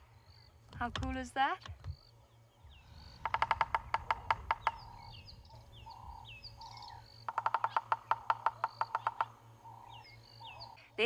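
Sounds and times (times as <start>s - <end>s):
woodpecker drumming on wood: 0.6s - 2.2s, 3.0s - 10.7s.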